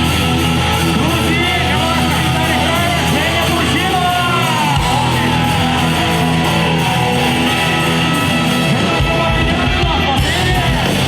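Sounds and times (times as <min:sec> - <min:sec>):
guitar lead with bending notes: 0:00.0 - 0:11.0
live rock band playing: 0:00.0 - 0:11.0.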